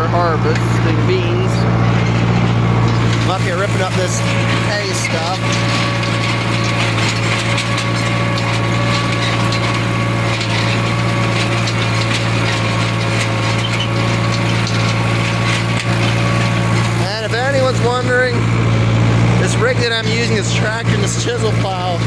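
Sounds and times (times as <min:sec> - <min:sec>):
tractor engine droning under load: 0:00.0 - 0:22.0.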